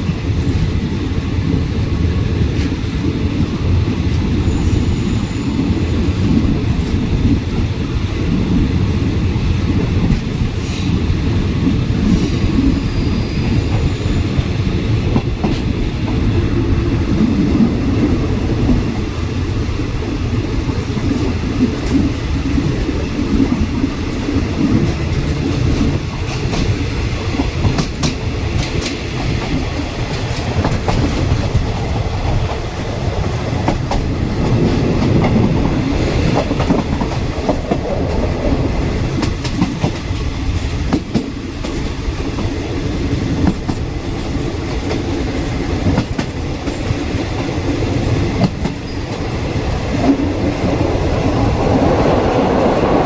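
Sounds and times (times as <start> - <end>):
rail joint clacks: 0.0 - 53.0
train wheels rumbling on rail: 0.0 - 53.0.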